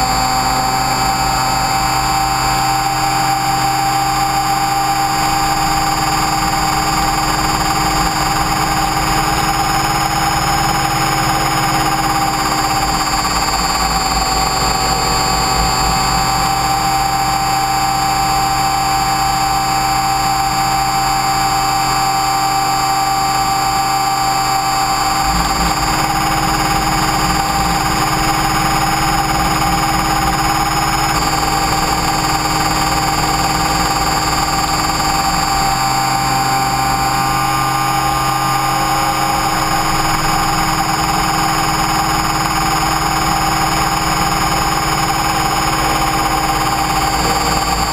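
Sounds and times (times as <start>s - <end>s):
rc helicopter motor whine: 0.0s - 47.9s.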